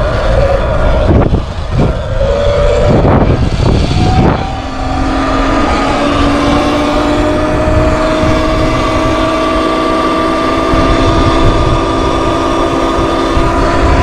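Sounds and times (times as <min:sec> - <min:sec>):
electric motorbike motor whining: 0:00.0 - 0:14.0
wind rumble on microphone: 0:00.0 - 0:14.0.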